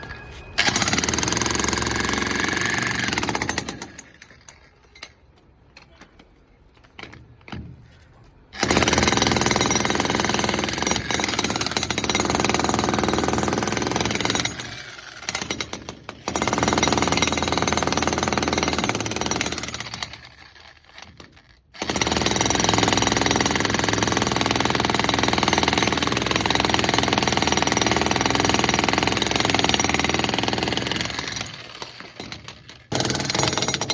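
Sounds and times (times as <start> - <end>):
jackhammer hammering: 0.6 - 4.2, 8.6 - 20.2, 21.8 - 33.9.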